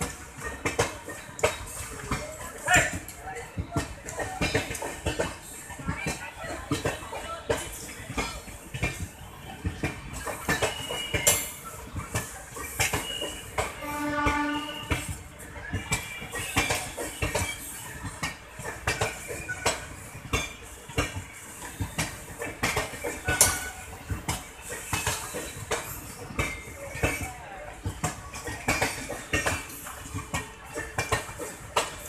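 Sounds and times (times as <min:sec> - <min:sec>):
train wheels clattering over rails: 0:00.0 - 0:32.0.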